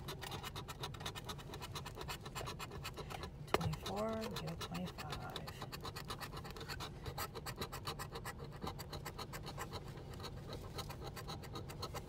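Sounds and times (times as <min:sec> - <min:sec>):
scraper rubbing lottery ticket: 0:00.0 - 0:12.0.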